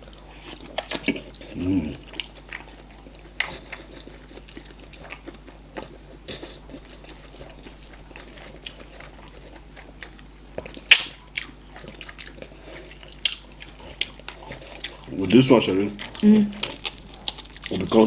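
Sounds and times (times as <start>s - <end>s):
mouth chewing food: 0.0s - 18.0s.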